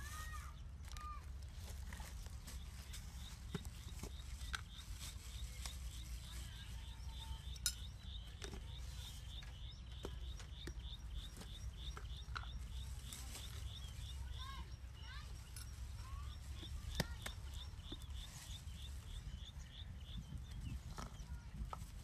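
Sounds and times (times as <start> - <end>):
low outdoor rumble: 0.0 - 22.0
bird chirping: 1.7 - 22.0.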